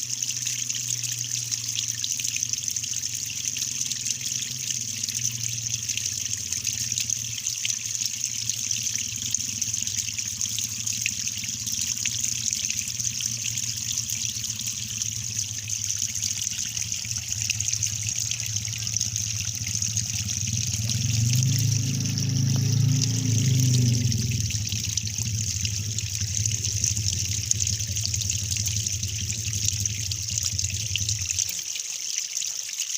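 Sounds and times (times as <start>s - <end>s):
water trickling and splashing: 0.0s - 32.9s.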